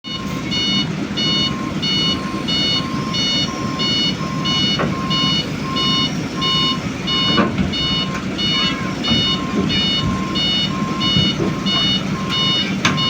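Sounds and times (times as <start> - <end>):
diesel engine running: 0.0 - 13.0
travel alarm beeping: 0.0 - 13.0.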